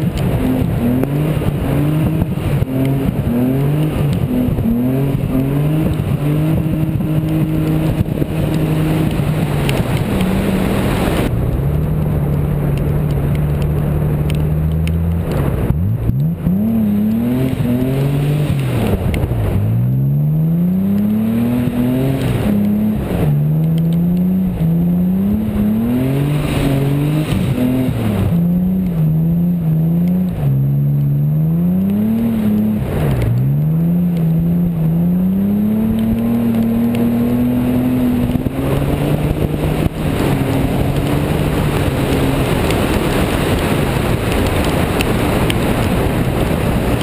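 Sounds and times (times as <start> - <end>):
car engine revving: 0.0 - 47.0
wind: 0.0 - 47.0
tyres hissing on wet road: 0.1 - 11.8, 13.7 - 47.0.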